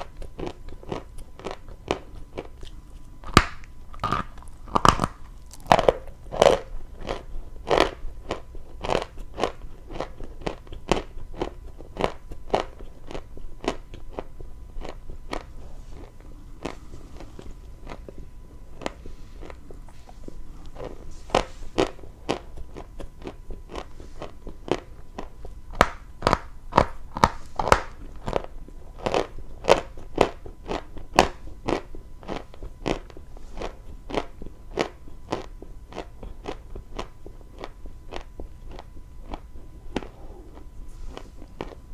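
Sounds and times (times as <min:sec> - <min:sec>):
chalk being chewed: 0:00.0 - 0:41.8.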